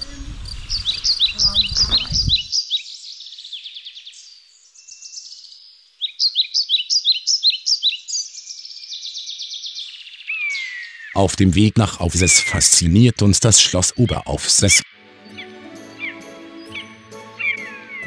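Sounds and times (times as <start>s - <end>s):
songbirds chirping and trilling: 0.0s - 18.0s.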